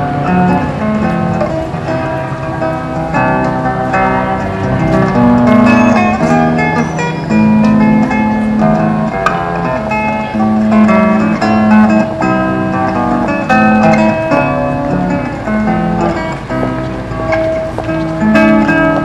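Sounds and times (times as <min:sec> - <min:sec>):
acoustic guitar plucking and strumming: 0:00.0 - 0:19.0.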